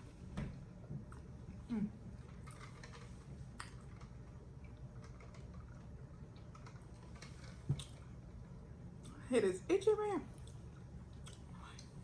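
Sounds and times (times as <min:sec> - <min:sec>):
quiet chewing: 0:00.8 - 0:09.2, 0:10.3 - 0:12.0.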